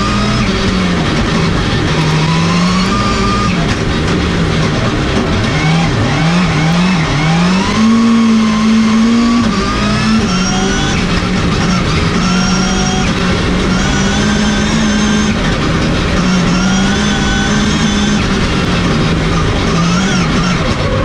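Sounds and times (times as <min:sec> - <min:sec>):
high whines climbing in pitch: 0:00.0 - 0:21.0
race car engine revving: 0:00.0 - 0:21.0
road and tyre noise: 0:00.0 - 0:21.0.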